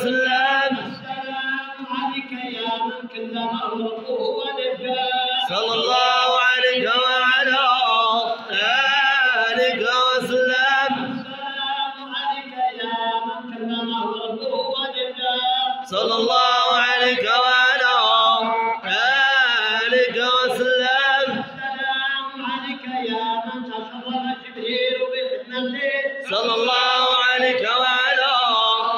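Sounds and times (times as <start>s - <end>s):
lead singer at microphone: 0.0s - 28.9s
men chanting without instruments: 0.0s - 28.9s.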